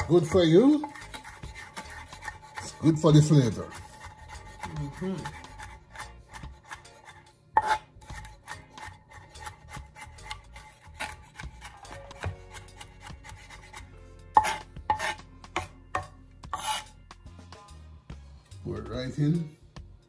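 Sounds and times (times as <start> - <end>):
knife chopping on cutting board: 0.0 - 16.9.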